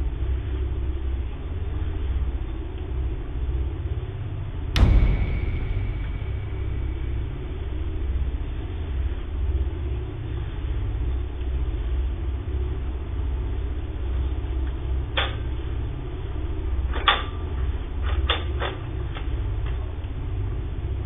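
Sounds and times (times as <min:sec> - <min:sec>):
low hum and rumble: 0:00.0 - 0:21.0.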